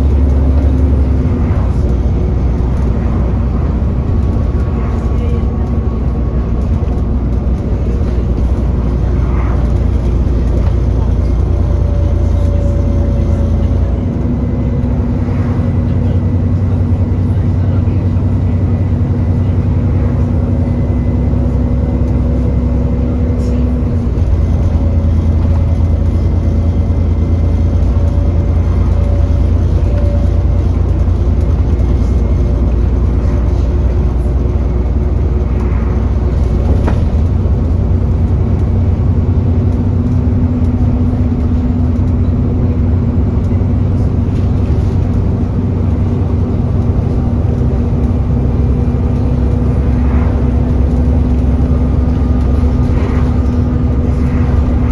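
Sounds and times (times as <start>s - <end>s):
bus engine and fan drone: 0.0s - 54.9s.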